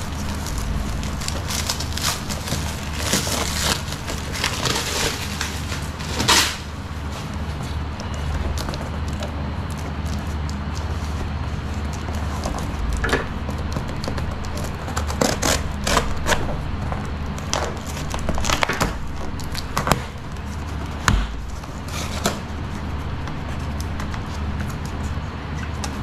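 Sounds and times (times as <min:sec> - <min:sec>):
packaging rustling: 0:00.0 - 0:25.1
steady low hum: 0:00.0 - 0:26.0.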